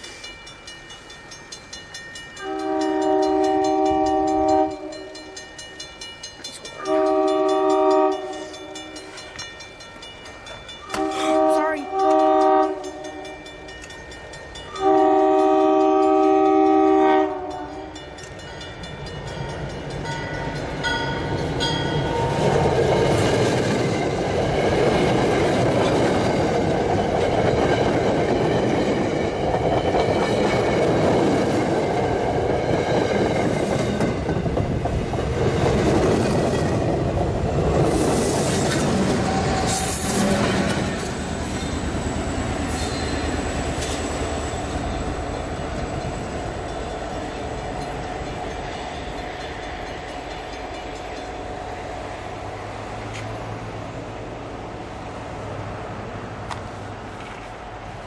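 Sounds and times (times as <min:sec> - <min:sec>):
commuter train passing: 0:00.0 - 0:58.0.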